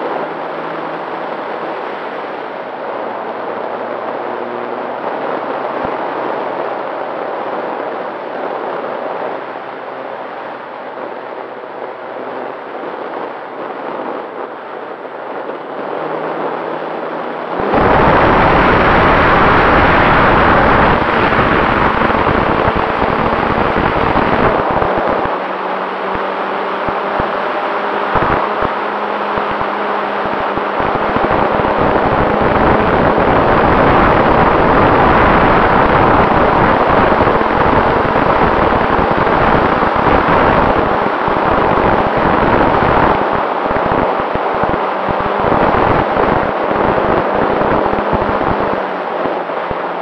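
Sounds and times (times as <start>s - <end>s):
wind rush on microphone: 0.0s - 50.0s.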